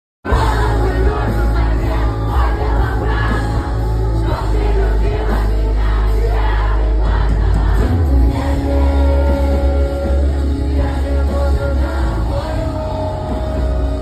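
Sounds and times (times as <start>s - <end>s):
crowd singing along: 0.3s - 14.0s
live rock band playing: 0.3s - 14.0s
person singing: 0.3s - 14.0s.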